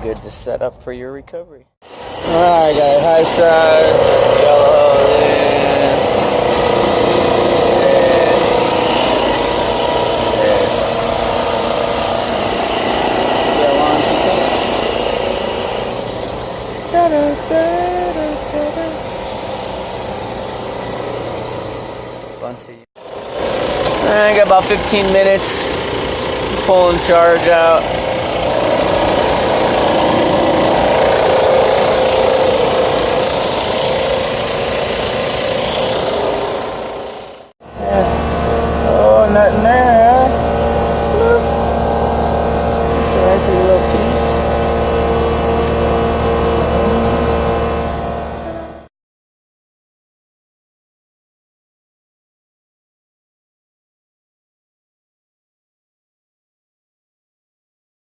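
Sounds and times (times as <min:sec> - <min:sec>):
refrigerant recovery machine running: 0:01.8 - 0:48.9.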